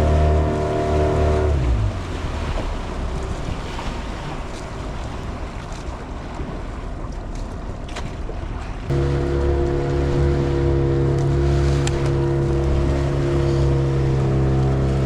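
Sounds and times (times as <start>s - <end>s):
boat engine: 0.0s - 15.0s
sea wash: 0.0s - 15.0s.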